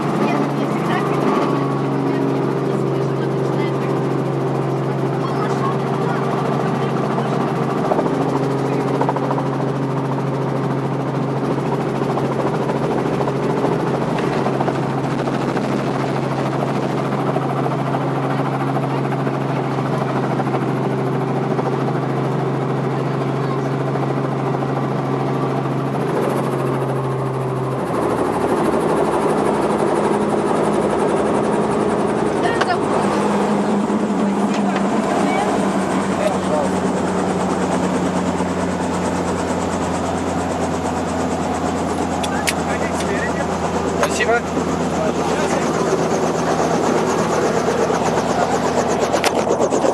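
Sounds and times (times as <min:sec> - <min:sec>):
helicopter engine and rotor drone: 0:00.0 - 0:49.9.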